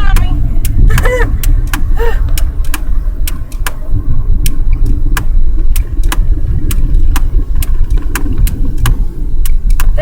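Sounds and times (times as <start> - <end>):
car engine and road noise: 0.0 - 10.0
sharp clicks: 0.0 - 10.0.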